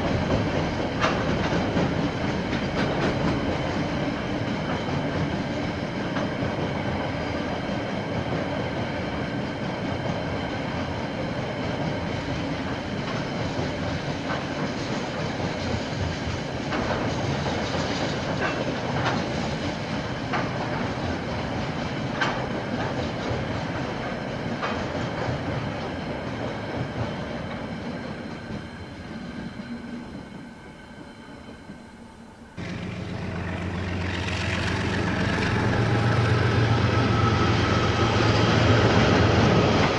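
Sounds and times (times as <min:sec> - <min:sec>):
train engine low hum: 0:00.0 - 0:39.9
train wagons rumbling past: 0:00.0 - 0:39.9.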